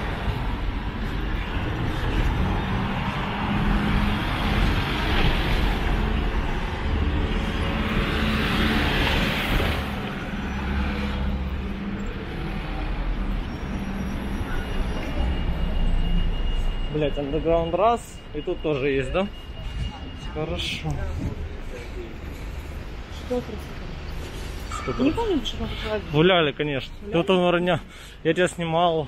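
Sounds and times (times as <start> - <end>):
road traffic engine hum: 0.0 - 28.4.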